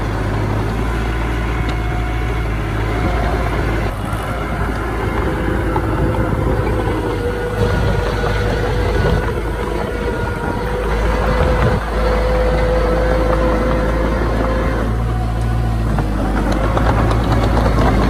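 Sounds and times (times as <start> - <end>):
diesel engine of heavy machinery: 0.0 - 18.0
machine whine: 0.0 - 18.0.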